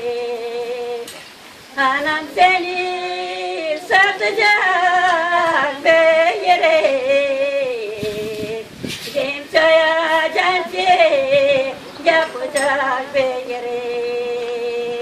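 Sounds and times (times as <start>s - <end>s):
women singing unaccompanied: 0.0s - 15.0s.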